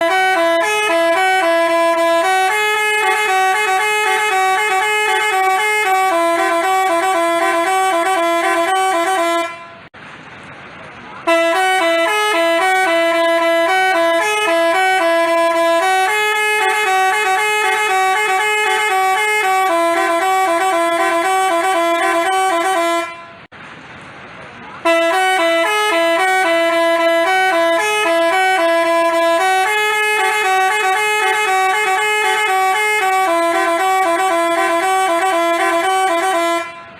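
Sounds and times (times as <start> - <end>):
bus horn playing a melody: 0.0 - 9.9, 11.2 - 23.5, 24.8 - 36.9.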